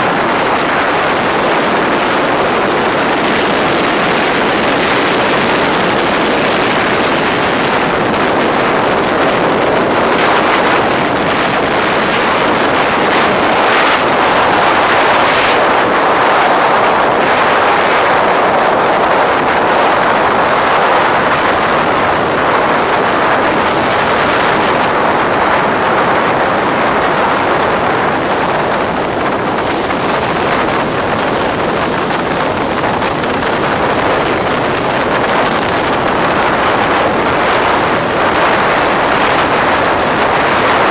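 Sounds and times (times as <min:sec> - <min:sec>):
sea surf rushing against shore: 0:00.0 - 0:40.9
wind on microphone: 0:00.0 - 0:40.9.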